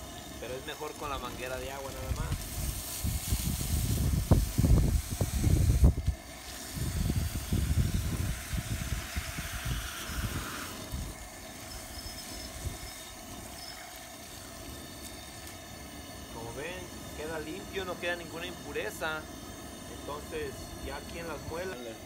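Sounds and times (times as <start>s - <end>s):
hose water spraying: 0.0s - 22.0s.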